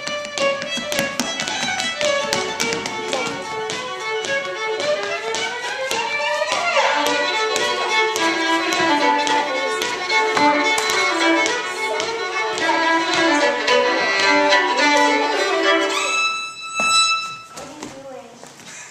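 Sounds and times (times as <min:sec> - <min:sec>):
sharp percussive taps: 0:00.0 - 0:17.3
fast fiddle tune: 0:00.0 - 0:17.5.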